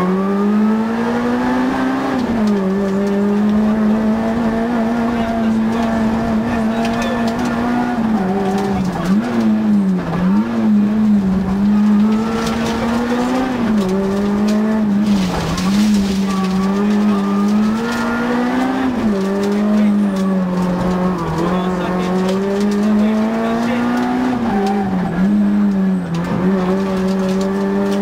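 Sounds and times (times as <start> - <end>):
car engine at high revs: 0.0 - 28.0.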